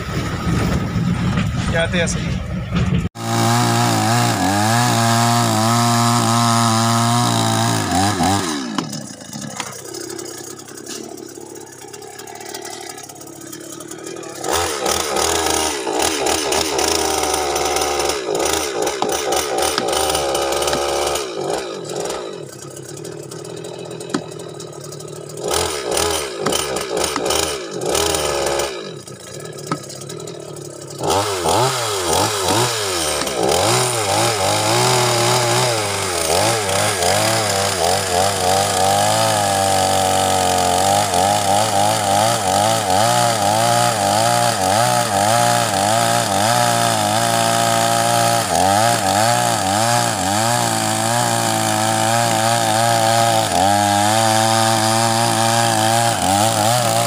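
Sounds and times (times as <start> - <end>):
chainsaw cutting into log: 3.1 - 57.0.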